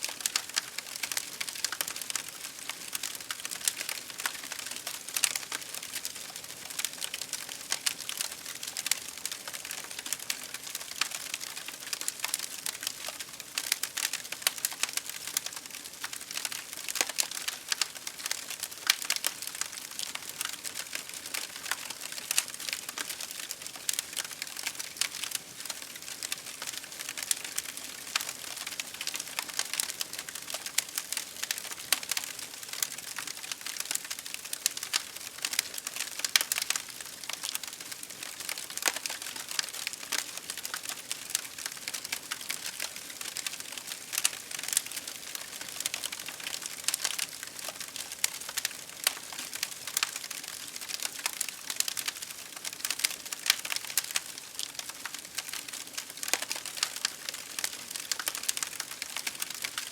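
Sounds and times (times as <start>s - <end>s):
campfire crackling: 0.1s - 59.9s.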